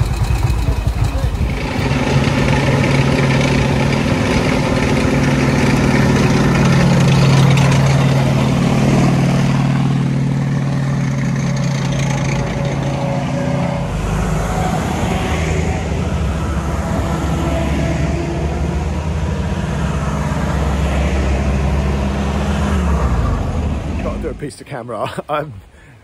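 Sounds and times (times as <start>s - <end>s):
tank engine drone: 0.0s - 25.8s
jeep engine rumble: 0.0s - 26.0s.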